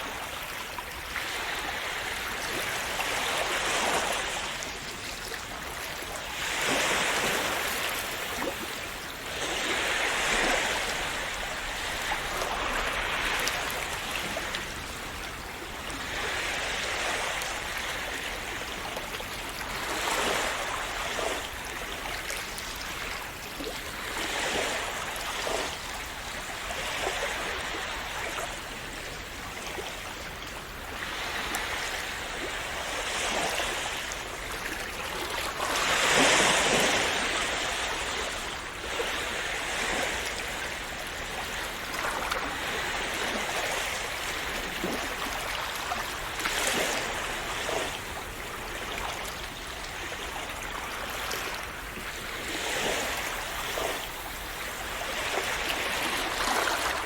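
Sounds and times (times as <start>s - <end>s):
sea waves washing: 0.0s - 57.0s.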